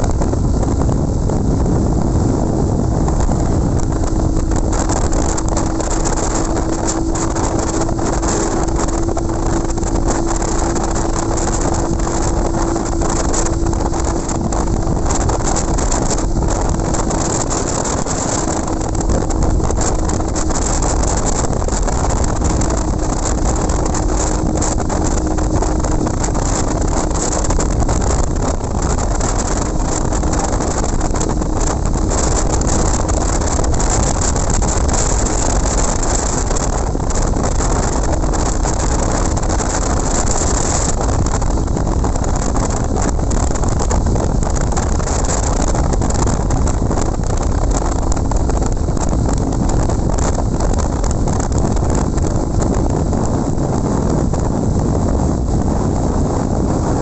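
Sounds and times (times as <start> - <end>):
motorcycle engine cruising: 0.0 - 57.0
wind buffeting microphone: 0.0 - 57.0.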